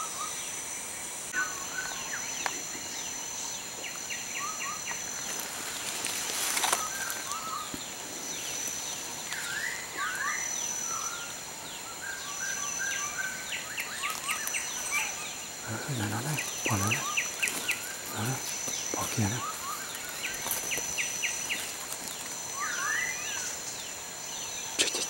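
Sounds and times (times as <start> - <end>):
high insect drone: 0.0 - 25.0
birds chirping: 1.3 - 25.0.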